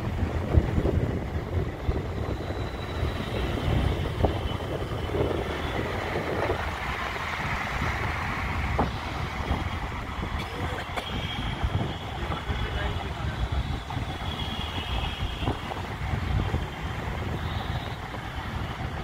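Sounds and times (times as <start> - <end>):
road and traffic noise: 0.0 - 19.0
wind gusting on microphone: 0.0 - 19.0.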